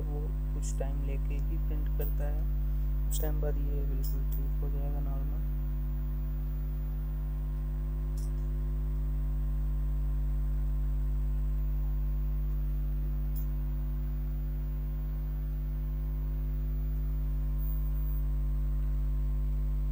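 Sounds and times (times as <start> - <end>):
mains hum: 0.0 - 19.9.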